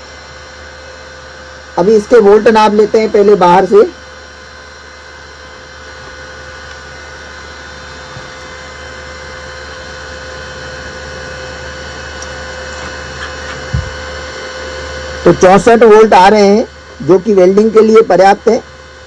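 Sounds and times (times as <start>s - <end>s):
welding machine cooling fan: 0.0s - 19.0s.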